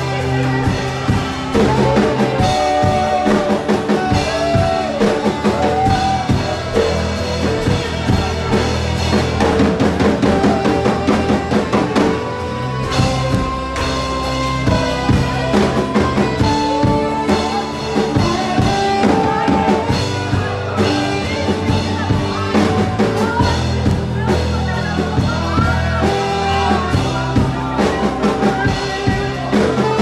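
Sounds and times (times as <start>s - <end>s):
acoustic guitar: 0.0s - 30.0s
bass guitar: 0.0s - 30.0s
drum kit beat: 0.0s - 30.0s
saxophone melody: 0.0s - 30.0s.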